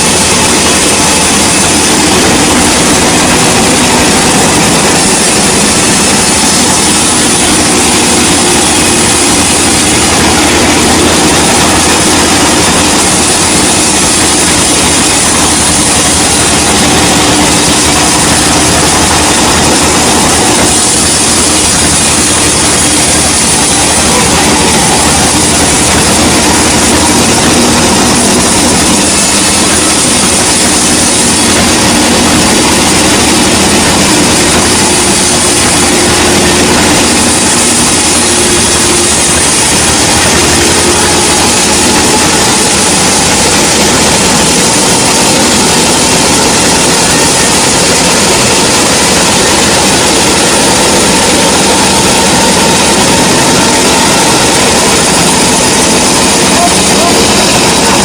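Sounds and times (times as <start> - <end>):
motor hum: 0.0 - 58.0
saw noise: 0.0 - 58.0.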